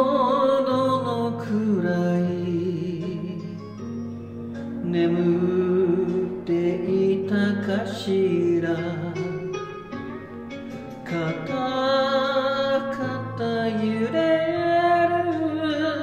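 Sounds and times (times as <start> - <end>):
instrumental accompaniment: 0.0 - 16.0
person singing ballad: 0.0 - 16.0.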